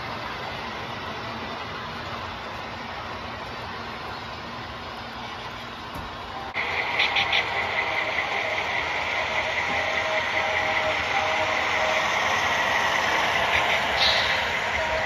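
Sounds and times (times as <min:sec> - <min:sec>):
constant high whine: 0:00.0 - 0:15.0
model train diesel engine running: 0:00.0 - 0:15.0.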